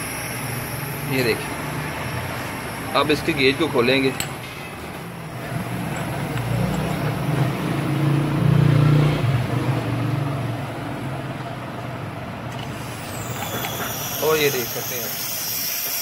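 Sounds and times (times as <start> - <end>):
compressor humming: 0.0 - 8.4, 9.4 - 16.0.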